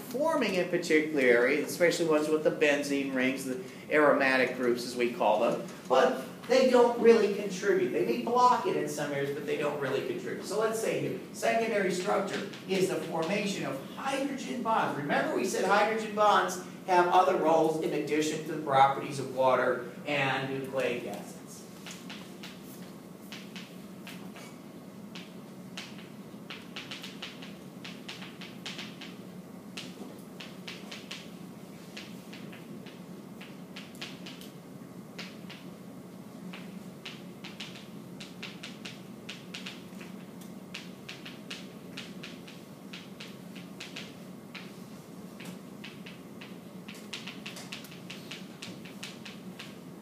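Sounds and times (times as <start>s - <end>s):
low room hum: 0.0s - 50.0s.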